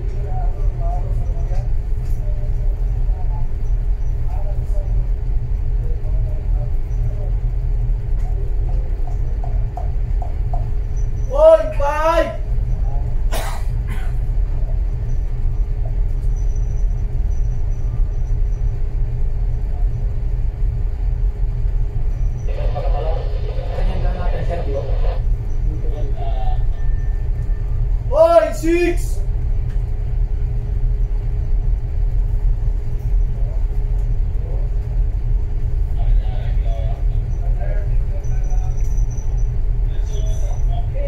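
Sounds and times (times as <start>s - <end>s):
faint steady hum: 0.0s - 41.0s
ship engine low rumble: 0.0s - 41.0s.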